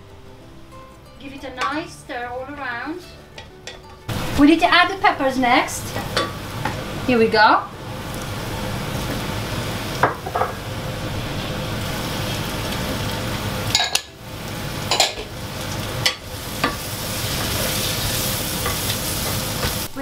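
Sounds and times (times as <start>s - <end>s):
vegetables sizzling in saucepan: 0.6s - 20.0s.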